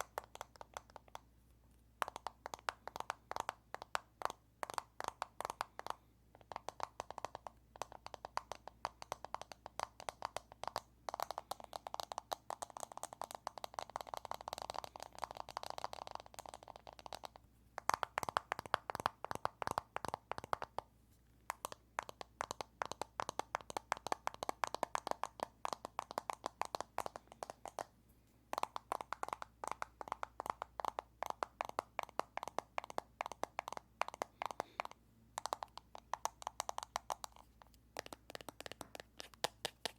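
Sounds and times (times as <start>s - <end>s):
fingers tapping on plastic case: 2.0s - 20.9s, 21.5s - 27.9s, 28.5s - 39.9s.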